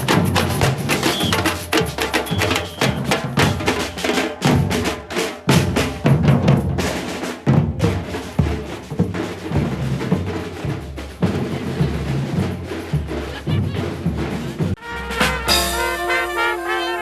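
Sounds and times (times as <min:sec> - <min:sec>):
bass drum and snare drumming: 0:00.0 - 0:17.0.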